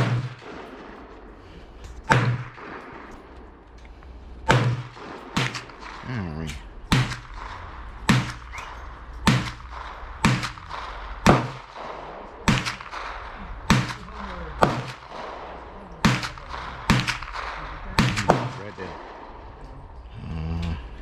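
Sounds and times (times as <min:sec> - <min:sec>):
gunshots with echo: 0:00.0 - 0:20.2.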